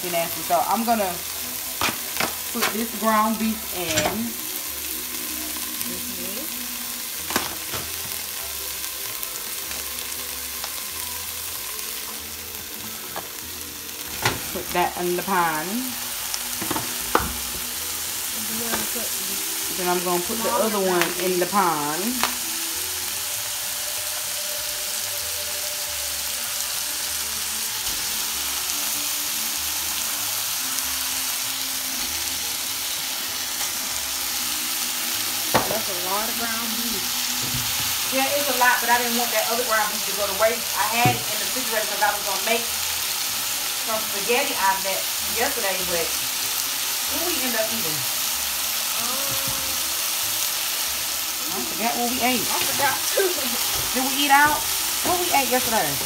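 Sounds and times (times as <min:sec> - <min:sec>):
vegetables sizzling in oil: 0:00.0 - 0:56.0.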